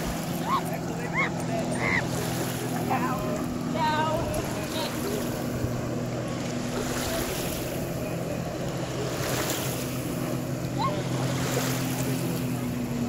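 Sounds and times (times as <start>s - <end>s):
jet ski engine humming: 0.0s - 13.0s.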